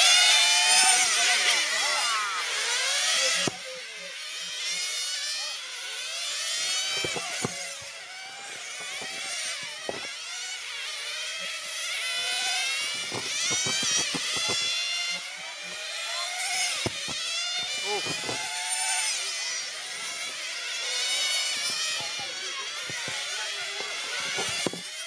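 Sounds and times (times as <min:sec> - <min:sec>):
small engines high-pitched: 0:00.0 - 0:25.0.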